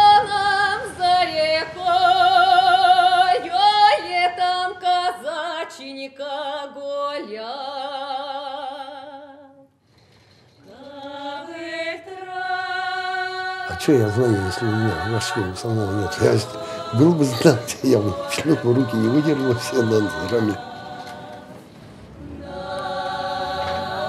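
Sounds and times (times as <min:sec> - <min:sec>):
choir singing unaccompanied: 0:00.0 - 0:06.5, 0:10.7 - 0:24.0.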